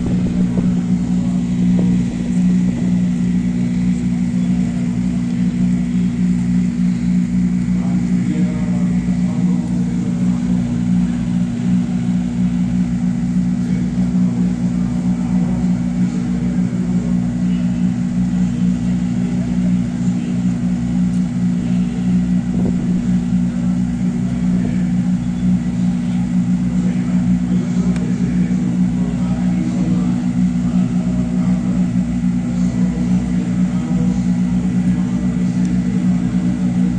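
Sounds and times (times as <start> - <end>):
low engine hum: 0.0 - 36.9.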